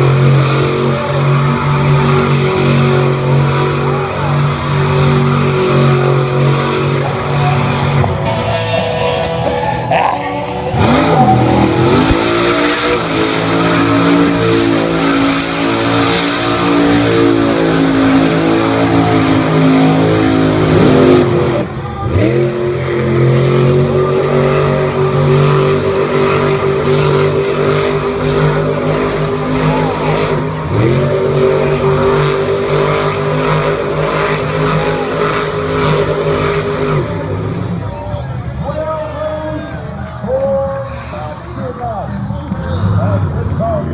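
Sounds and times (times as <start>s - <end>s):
racing engines revving: 0.0s - 43.9s.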